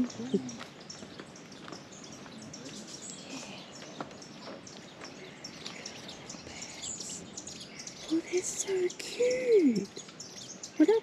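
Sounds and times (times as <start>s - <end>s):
faint rainforest background: 0.0s - 11.0s
small birds chirping: 0.0s - 11.0s.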